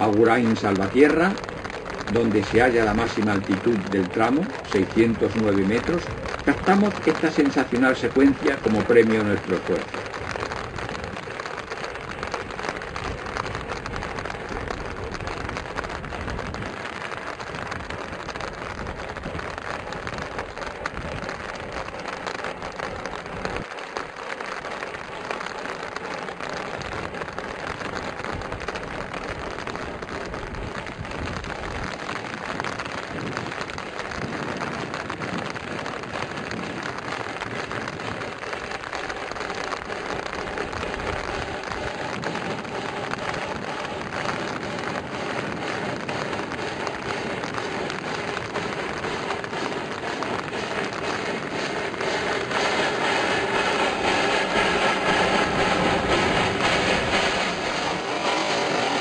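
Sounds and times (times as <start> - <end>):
steam locomotive exhaust rushing: 0.0 - 59.0.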